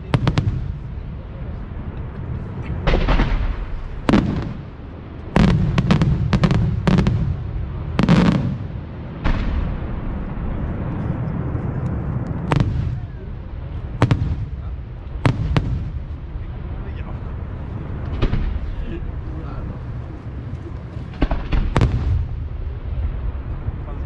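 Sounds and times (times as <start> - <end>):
fireworks exploding: 0.0 - 16.9, 17.9 - 19.2, 20.3 - 23.8.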